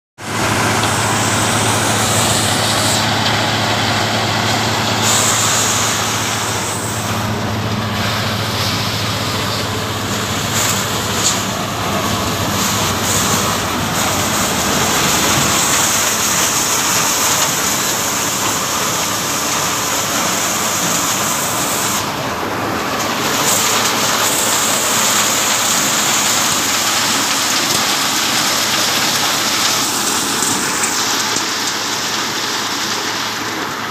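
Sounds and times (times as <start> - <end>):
thresher rushing noise: 0.2 - 33.9
tractor engine hum: 0.2 - 33.9.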